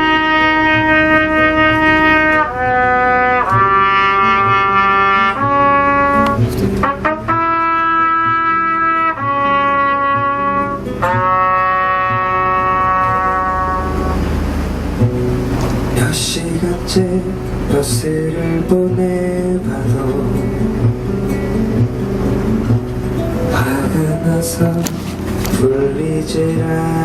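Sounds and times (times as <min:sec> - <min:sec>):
held brass-like chords: 0:00.0 - 0:27.0.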